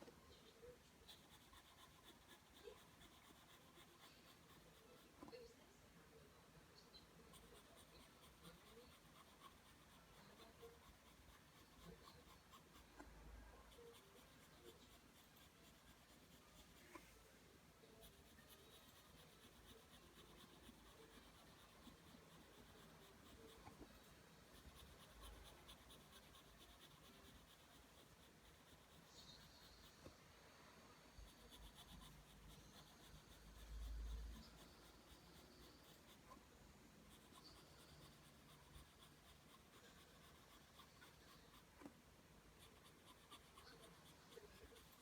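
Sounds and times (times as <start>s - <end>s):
pencil scratching on paper: 0.1s - 5.4s, 6.8s - 30.2s, 31.0s - 45.0s.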